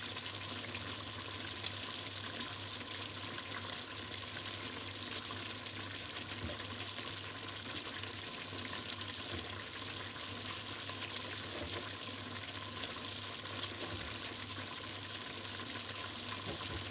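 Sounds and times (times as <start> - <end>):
stew simmering and bubbling: 0.0 - 16.9.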